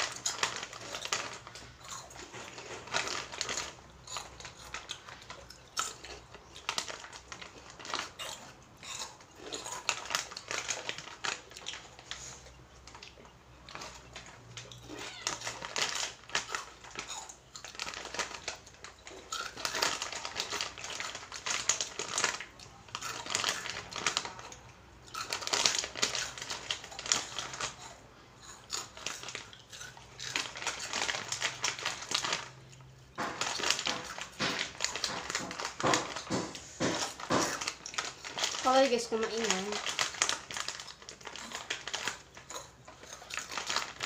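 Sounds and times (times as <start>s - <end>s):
crunchy snacks being chewed: 0.0s - 44.0s
plastic snack packet crinkling: 0.0s - 44.0s.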